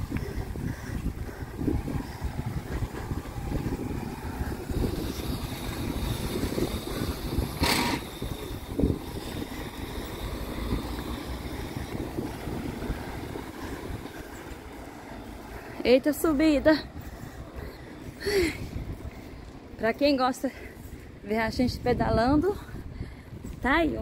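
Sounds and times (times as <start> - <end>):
road rumble: 0.0 - 24.0
wind buffeting microphone: 0.0 - 24.0.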